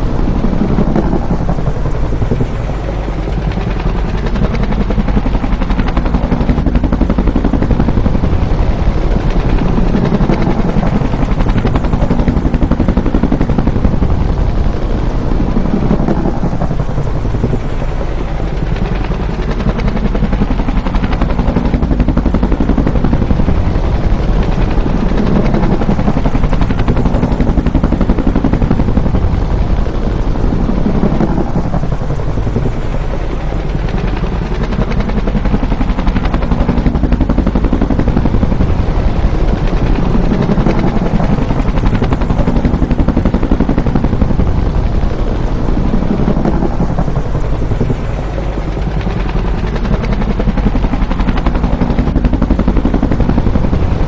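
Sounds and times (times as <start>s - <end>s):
helicopter rotor beating: 0.0s - 54.0s.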